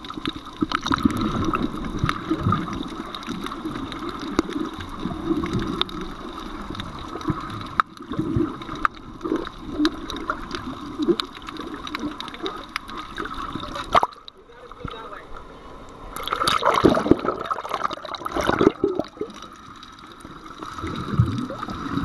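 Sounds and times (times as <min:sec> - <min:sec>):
underwater gurgling and sloshing: 0:00.0 - 0:22.0.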